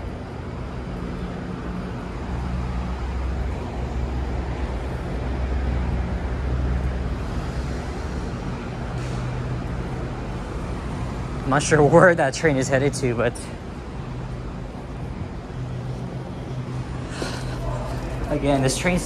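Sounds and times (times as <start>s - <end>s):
diesel trains idling: 0.0s - 19.0s.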